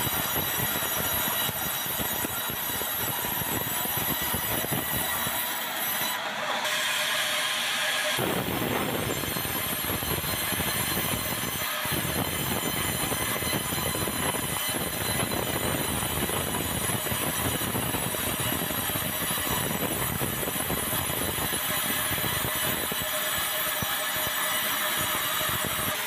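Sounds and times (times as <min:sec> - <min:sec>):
sawmill saw cutting timber: 0:00.0 - 0:26.0.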